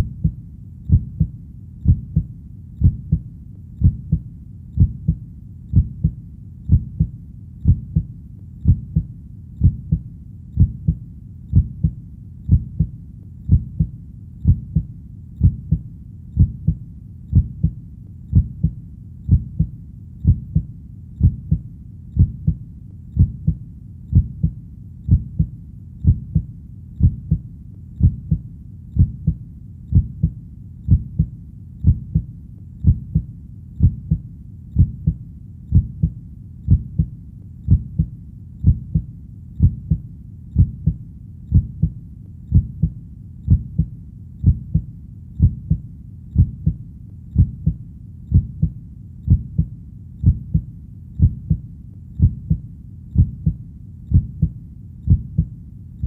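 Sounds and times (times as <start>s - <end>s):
heartbeat thumps: 0.0s - 55.6s
faint low hum: 0.0s - 56.0s.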